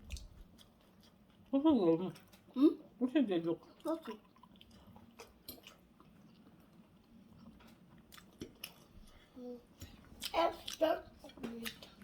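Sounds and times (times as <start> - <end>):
chewing: 0.0 - 2.6, 3.7 - 12.0.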